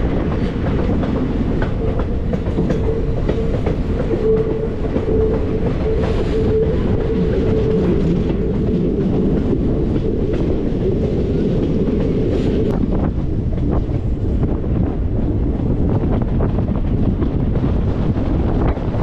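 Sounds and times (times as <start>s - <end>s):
train wheels rumbling on rail: 0.0s - 19.0s
wind buffeting microphone: 0.0s - 19.0s.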